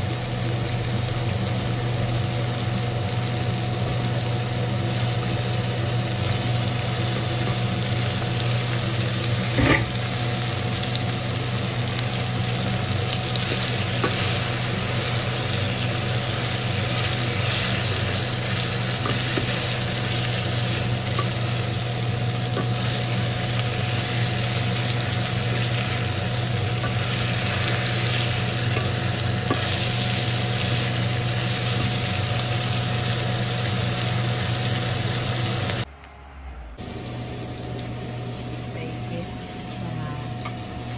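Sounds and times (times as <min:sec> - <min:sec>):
food sizzling in a pot: 0:00.0 - 0:35.9, 0:36.8 - 0:40.9
steady low hum: 0:00.0 - 0:40.9.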